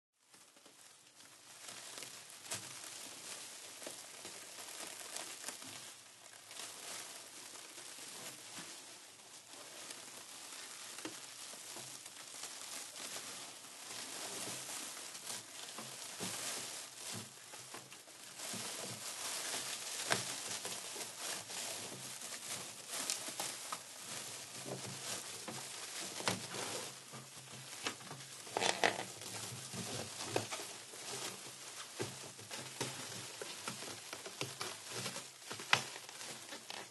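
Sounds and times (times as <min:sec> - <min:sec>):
plastic sheeting crinkling: 0:00.2 - 0:36.9.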